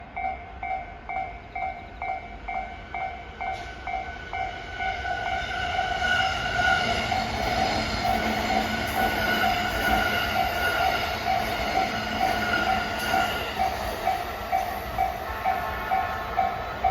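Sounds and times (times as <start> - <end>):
approaching train: 0.0 - 16.9.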